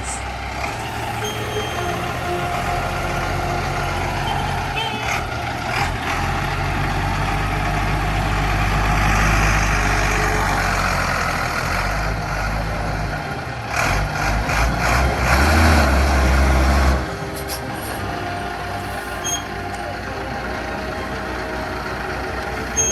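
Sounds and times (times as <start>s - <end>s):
vehicle engine under load: 0.0s - 22.9s.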